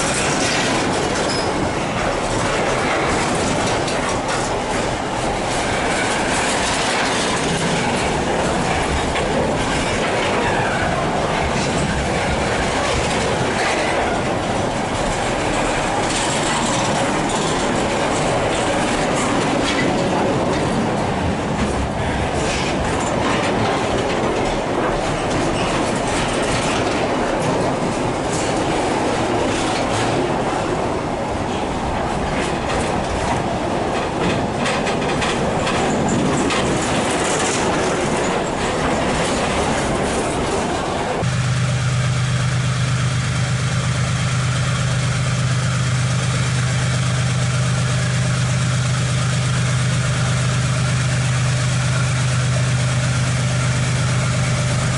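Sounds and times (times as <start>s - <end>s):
distant diesel locomotive drone: 0.0s - 54.9s
train wheels clicking on rails: 0.0s - 54.9s.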